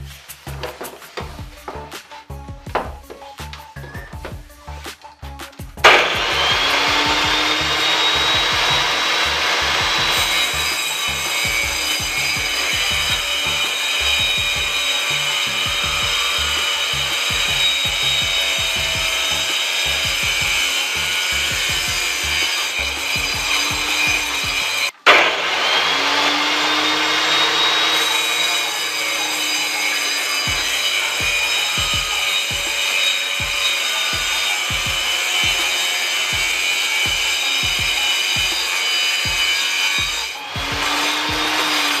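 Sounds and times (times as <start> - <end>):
table saw cutting chipboard: 0.0 - 42.0.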